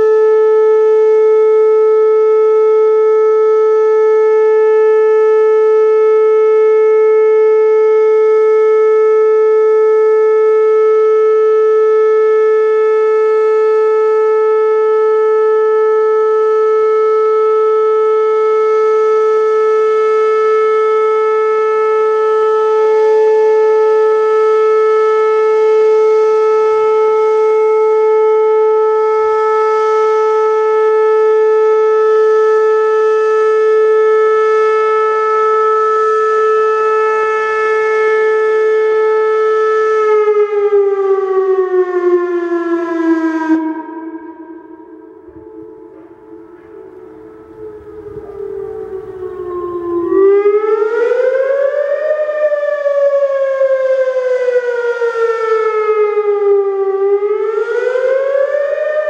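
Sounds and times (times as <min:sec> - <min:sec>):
outdoor warning siren steady tone: 0:00.0 - 0:59.0.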